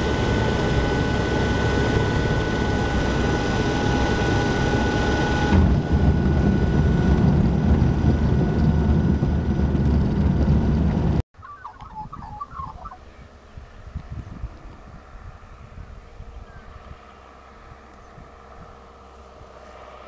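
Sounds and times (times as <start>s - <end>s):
aircraft engine and propeller running: 0.0s - 20.0s.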